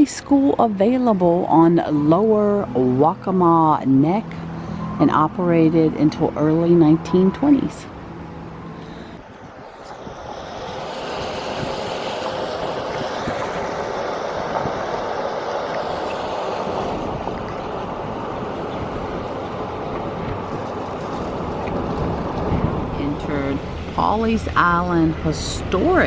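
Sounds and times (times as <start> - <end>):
road and tyre noise: 0.0 - 26.0.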